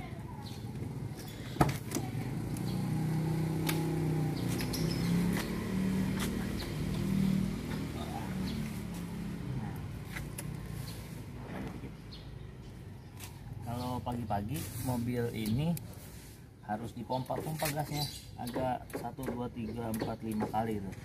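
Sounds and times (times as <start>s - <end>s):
engine hum: 0.0s - 18.2s.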